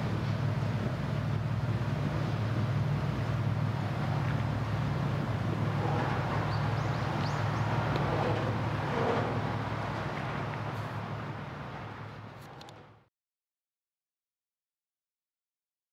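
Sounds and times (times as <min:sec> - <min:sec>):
low engine drone: 0:00.0 - 0:13.1.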